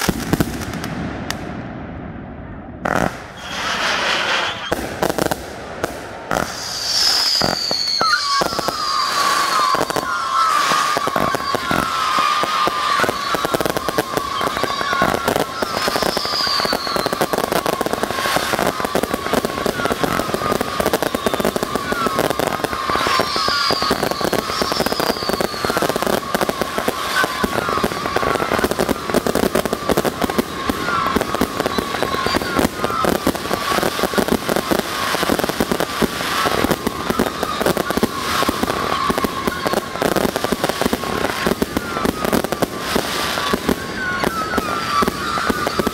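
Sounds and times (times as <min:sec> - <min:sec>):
firework launches and bursts: 0:00.0 - 0:45.9
falling firework whistles: 0:02.8 - 0:05.5, 0:06.2 - 0:45.9.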